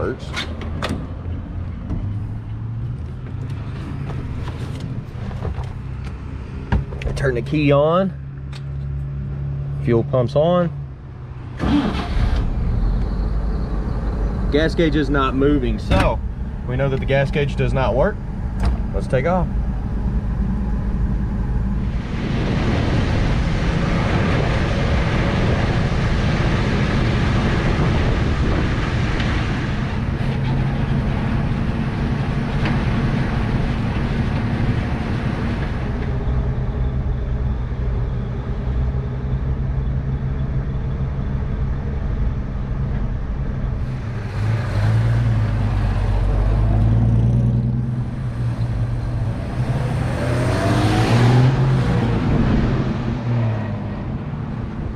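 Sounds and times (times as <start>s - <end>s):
road and wind noise: 0.0s - 54.9s.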